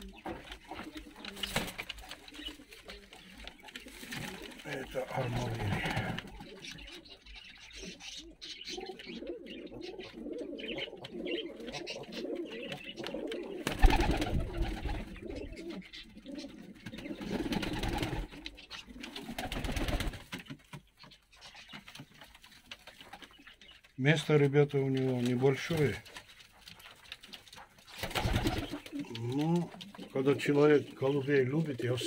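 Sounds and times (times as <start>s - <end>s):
pigeons cooing: 0.0s - 20.5s, 24.8s - 32.0s.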